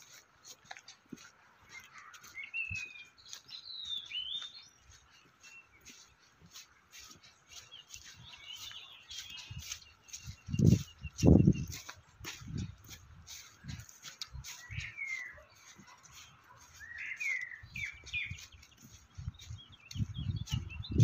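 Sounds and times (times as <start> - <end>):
birds chirping and whistling: 0.0 - 21.0
footsteps on gravel: 0.0 - 21.0.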